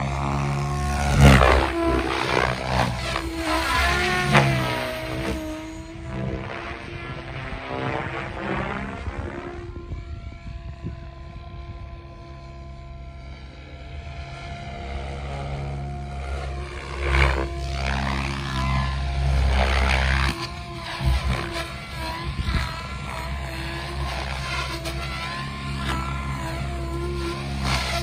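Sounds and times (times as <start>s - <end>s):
rc helicopter rotor whine: 0.0s - 28.0s.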